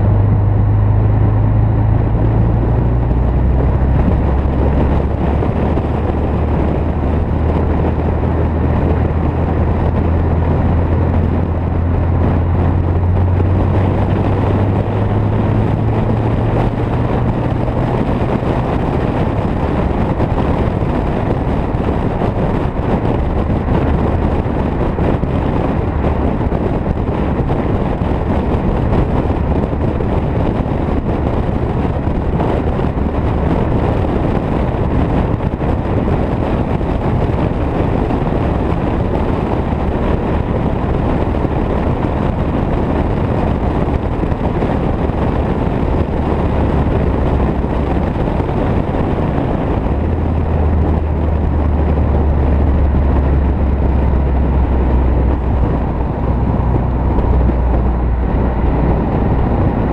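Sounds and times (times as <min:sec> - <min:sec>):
car engine drone: 0:00.0 - 0:59.9
wind rush on microphone: 0:00.0 - 0:59.9.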